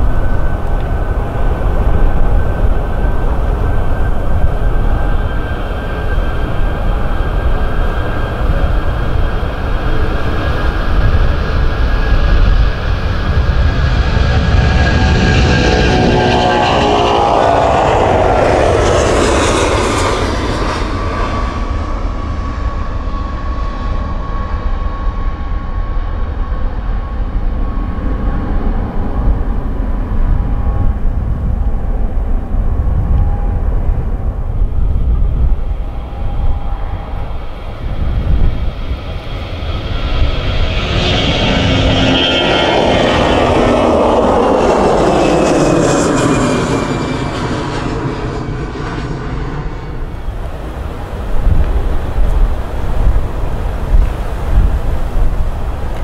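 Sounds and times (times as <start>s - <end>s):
jet airliner taking off: 0.0s - 56.0s.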